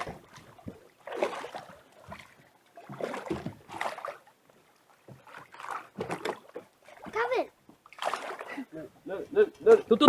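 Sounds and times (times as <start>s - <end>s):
water splashing beside boat: 0.0s - 10.0s.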